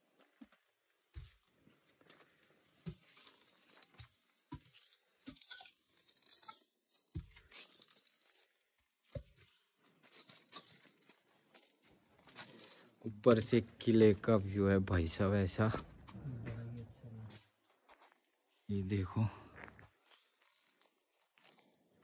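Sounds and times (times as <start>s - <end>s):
grit crunching underfoot: 1.1s - 18.3s, 19.4s - 22.0s.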